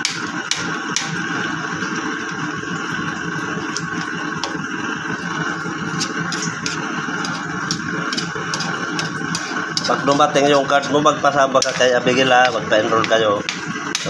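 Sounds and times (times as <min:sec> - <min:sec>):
pot simmering with bubbling hiss: 0:00.0 - 0:14.0.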